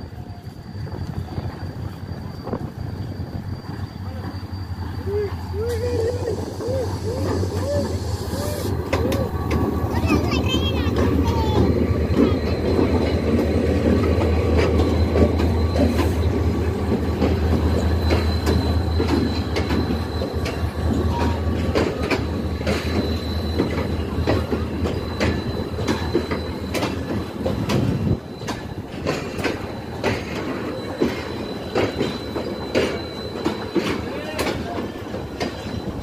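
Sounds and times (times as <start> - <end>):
locomotive engine drone: 0.0 - 36.0
thin steady squeal: 0.0 - 36.0
wheels clicking over rail joints: 5.5 - 36.0.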